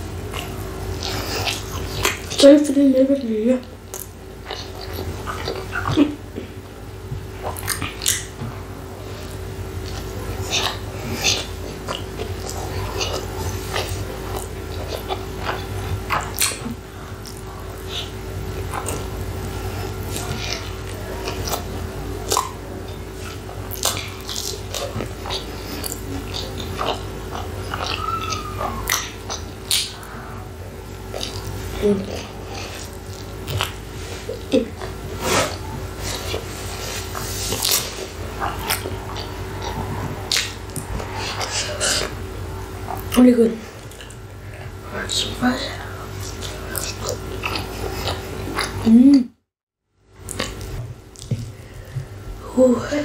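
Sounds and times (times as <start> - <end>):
person chewing: 0.0 - 2.7, 3.6 - 49.0, 50.2 - 52.3
low hum: 0.0 - 53.0.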